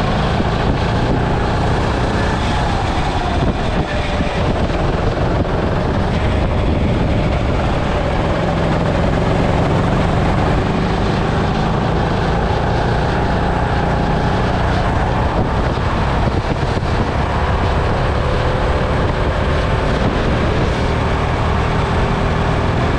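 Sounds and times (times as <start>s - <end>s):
go-kart engine running: 0.0s - 22.9s
wind rush on microphone: 0.0s - 22.9s.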